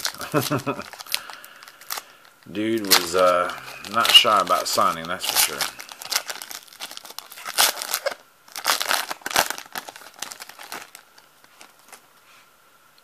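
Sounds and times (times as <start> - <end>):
foil wrapper crinkling: 0.0 - 12.1.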